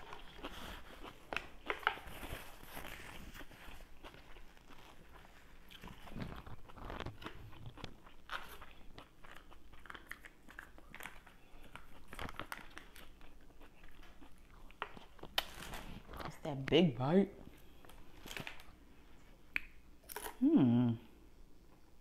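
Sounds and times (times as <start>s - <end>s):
chewing and crunching salad: 0.0s - 16.8s, 19.6s - 20.5s.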